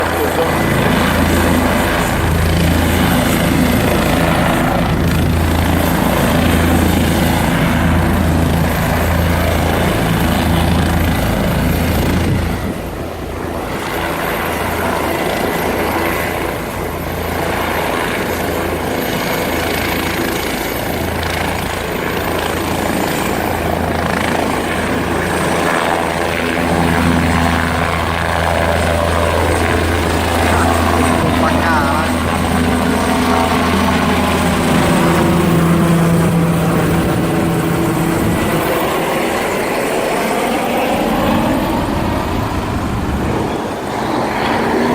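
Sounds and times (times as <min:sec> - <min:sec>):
helicopter rotor throbbing: 0:00.0 - 0:44.9.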